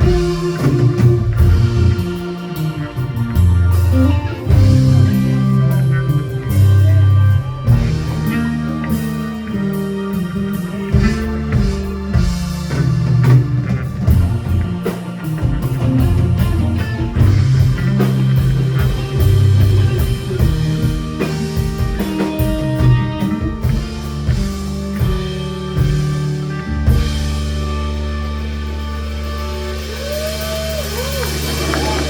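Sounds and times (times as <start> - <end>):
bass guitar: 0.0 - 32.0
drum kit: 0.0 - 32.0
electric guitar: 0.0 - 32.0.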